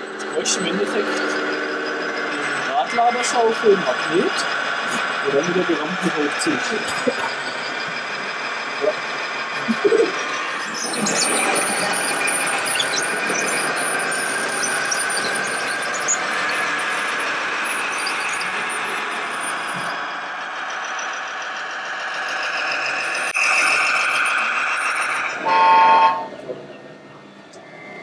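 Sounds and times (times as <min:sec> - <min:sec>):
truck engine noise from speakers: 0:00.0 - 0:28.0.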